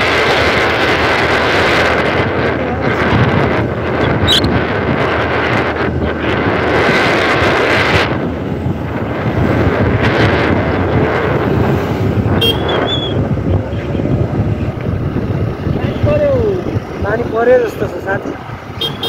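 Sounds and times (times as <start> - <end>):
tyre noise on road: 0.0 - 19.0
wind buffeting microphone: 0.0 - 19.0.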